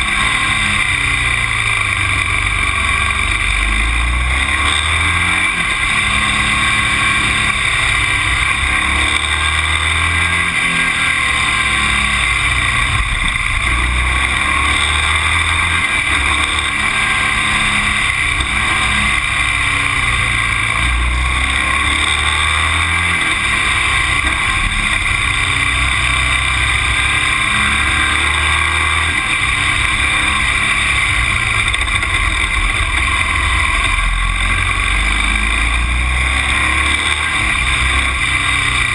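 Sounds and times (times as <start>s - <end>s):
road vehicle running: 0.0s - 38.9s.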